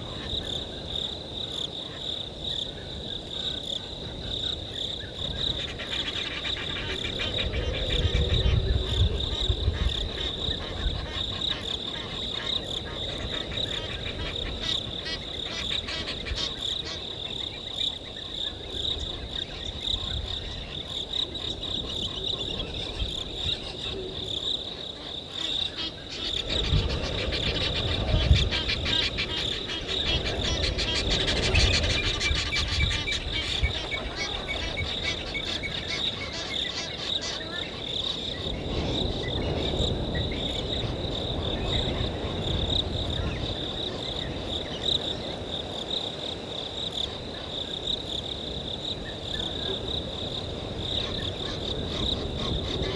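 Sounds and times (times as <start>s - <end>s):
crickets chirring: 0.0s - 52.9s.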